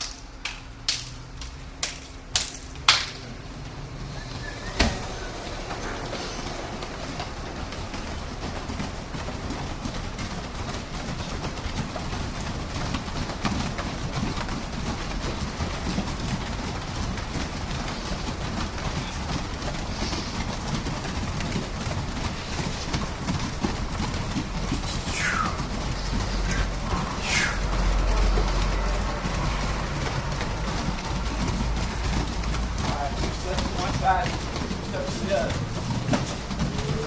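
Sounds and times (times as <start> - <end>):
barefoot footfalls on gym mats: 0.0 - 37.0.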